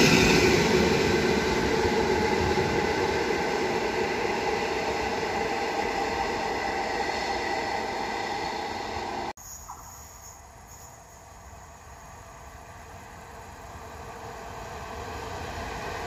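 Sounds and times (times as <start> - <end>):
train rushing past: 0.0 - 9.4, 11.1 - 16.0.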